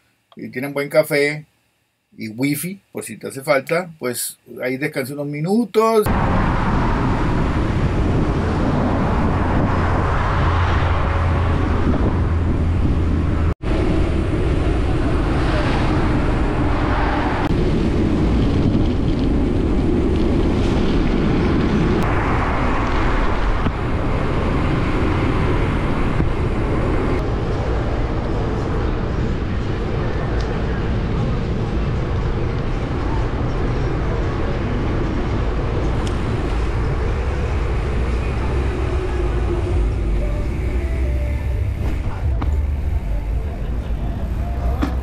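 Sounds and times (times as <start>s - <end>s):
passing motor traffic: 6.1s - 45.0s
wind rumble: 6.1s - 45.0s.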